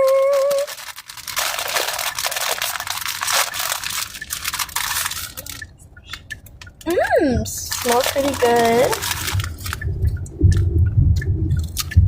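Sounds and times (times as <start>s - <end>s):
crisp bag crinkling: 0.0s - 9.9s.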